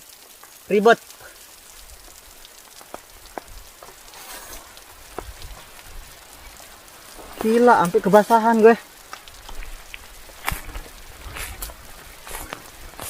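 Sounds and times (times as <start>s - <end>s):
rain falling: 0.0s - 13.0s
sharp ticks of raindrops: 0.0s - 13.0s.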